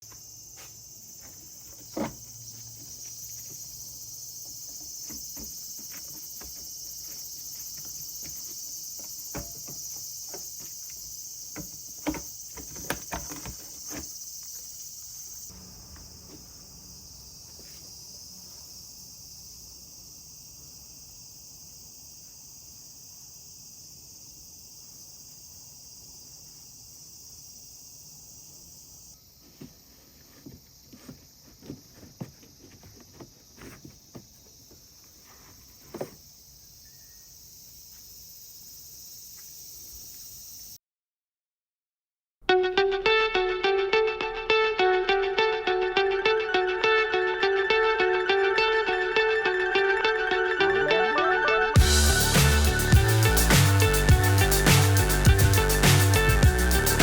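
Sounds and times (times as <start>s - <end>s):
insects chirring: 0.0s - 40.8s, 43.0s - 57.0s.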